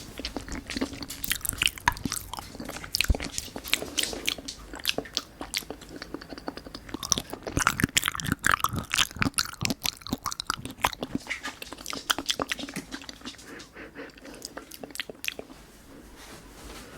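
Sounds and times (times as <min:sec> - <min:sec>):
wet chewing and smacking: 0:00.0 - 0:15.6.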